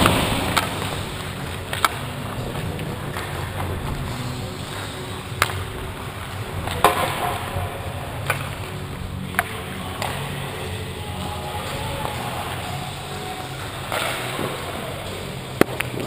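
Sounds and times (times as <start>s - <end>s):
arena rumble: 0.0s - 16.0s
hockey pucks and sticks clacking: 0.0s - 16.0s.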